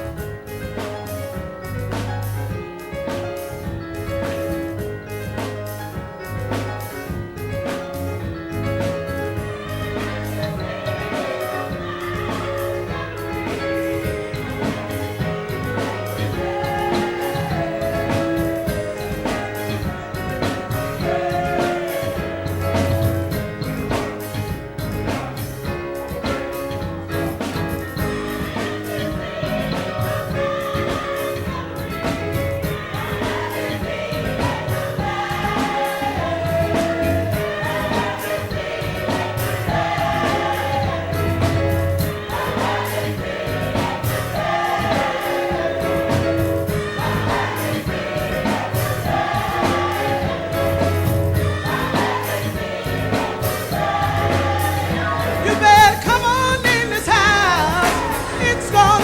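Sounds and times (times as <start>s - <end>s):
gospel choir singing: 0.0s - 59.0s
bass line: 3.6s - 59.0s.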